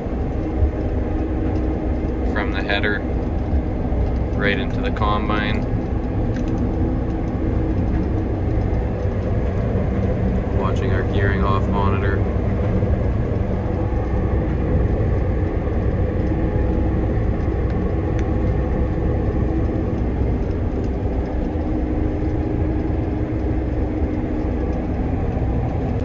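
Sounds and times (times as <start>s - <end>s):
combine machinery hum: 0.0s - 26.0s.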